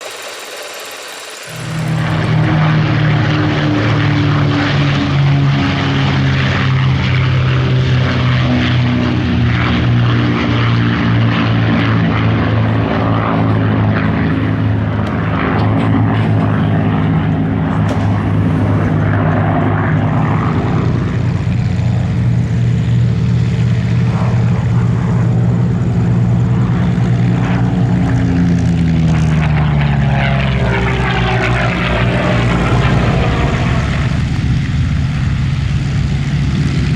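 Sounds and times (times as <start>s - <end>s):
propeller aircraft engines droning: 0.0s - 36.9s.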